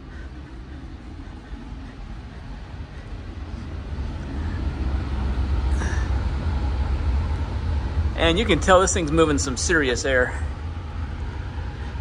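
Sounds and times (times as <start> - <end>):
fan rushing air: 0.0 - 12.0.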